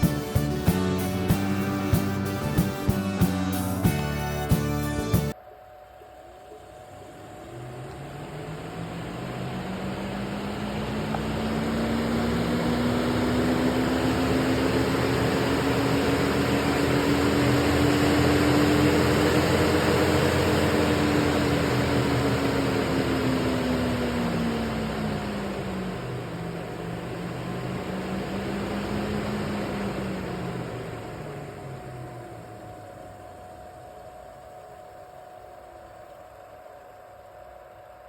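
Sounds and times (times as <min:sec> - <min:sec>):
electric cooling fan humming: 0:00.0 - 0:38.0.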